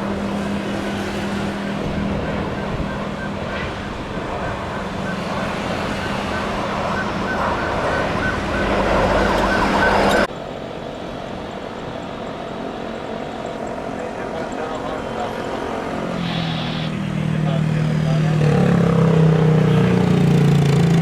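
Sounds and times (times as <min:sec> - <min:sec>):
jet airliner engine noise: 0:00.0 - 0:20.8.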